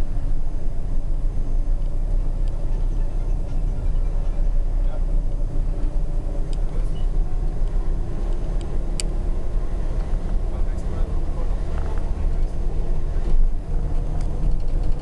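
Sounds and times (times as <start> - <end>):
coach engine and road noise: 0.0 - 15.0.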